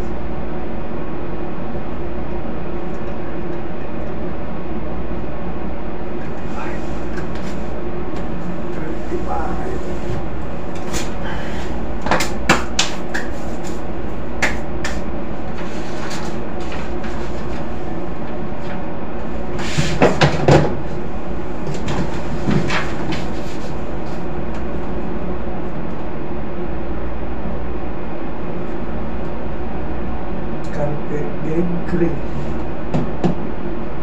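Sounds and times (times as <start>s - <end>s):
low machinery hum: 0.0s - 34.0s.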